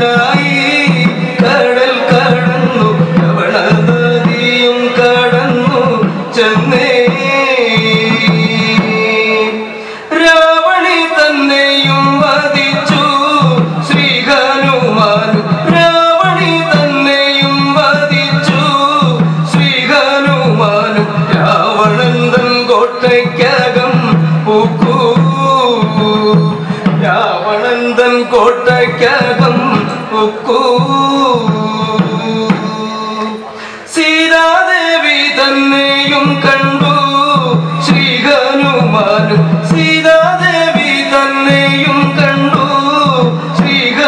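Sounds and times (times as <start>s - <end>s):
drum strokes: 0.0s - 44.0s.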